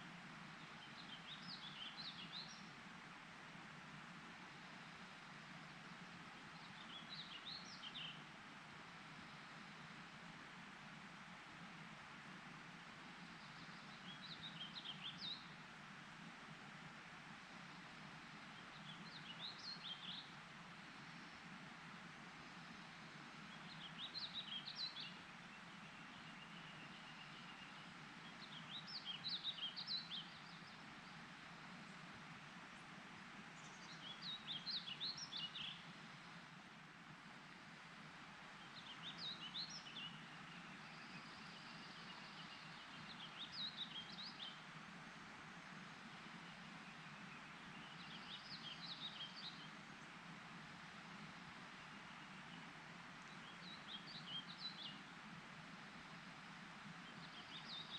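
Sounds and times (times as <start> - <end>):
faint background hiss: 0.0 - 57.9
songbird chirping: 0.5 - 2.8, 4.6 - 10.4, 12.8 - 15.9, 17.3 - 55.1, 56.0 - 57.9.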